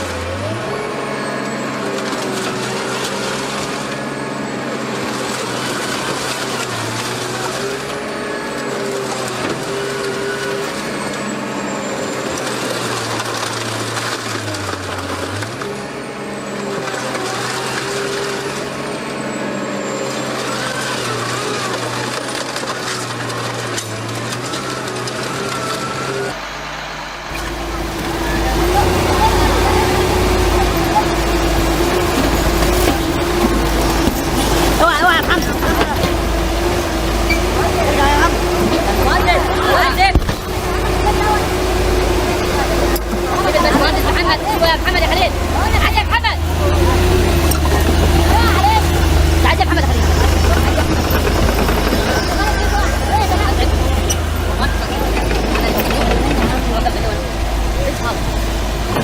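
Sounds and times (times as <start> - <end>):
crushing noise: 0.0 - 19.2, 19.9 - 59.0
engine running: 0.0 - 59.0
machine whine: 0.0 - 59.0.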